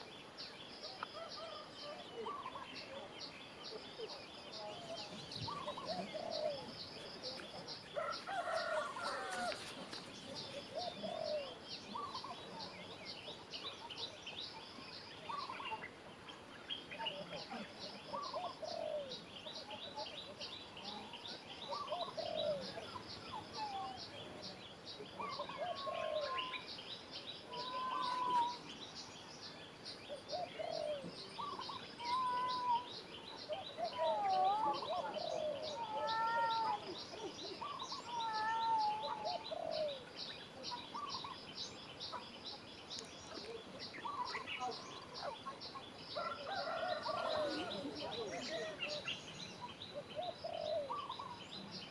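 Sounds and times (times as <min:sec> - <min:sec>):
birds ticking: 0:04.8 - 0:51.9.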